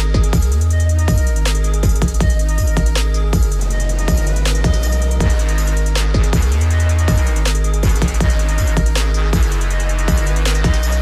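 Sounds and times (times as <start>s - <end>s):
drum beat of kicks and hi-hats: 0.0s - 11.0s
heavy bass line: 0.0s - 11.0s.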